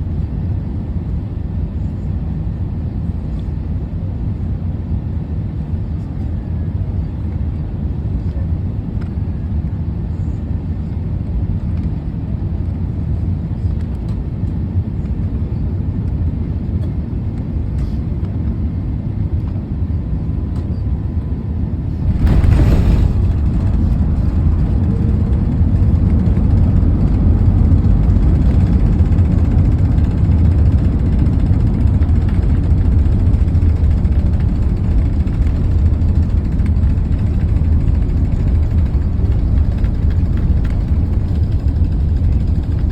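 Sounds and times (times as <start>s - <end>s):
vehicle rumble from inside: 0.2s - 42.9s.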